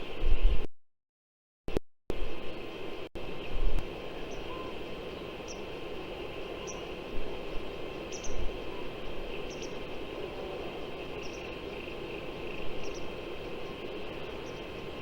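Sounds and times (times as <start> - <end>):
steady wind hiss: 0.0 - 0.7, 2.1 - 15.0
wind buffeting microphone: 0.0 - 0.7, 2.1 - 15.0.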